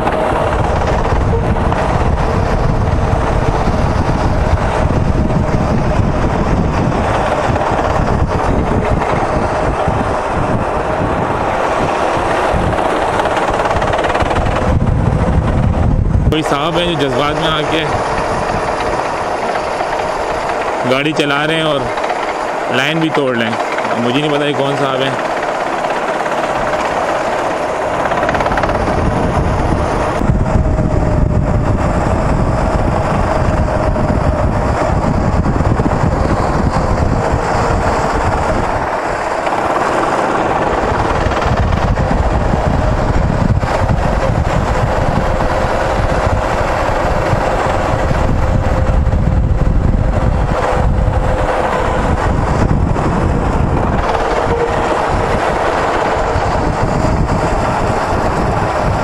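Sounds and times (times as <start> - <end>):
go-kart engine racing: 0.0 - 59.0
low wind rumble: 0.0 - 59.0.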